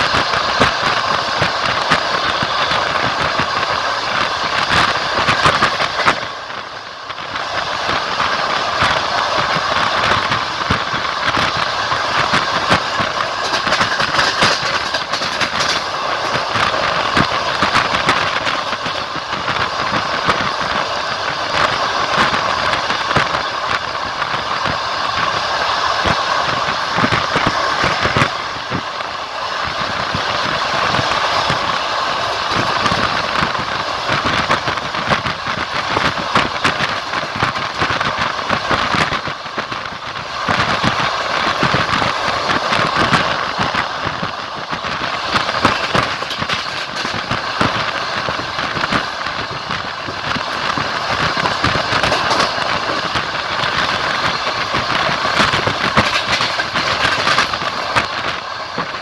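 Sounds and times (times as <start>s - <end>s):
train track noise rumbling: 0.0s - 59.0s
wheels clicking over rails: 0.0s - 59.0s.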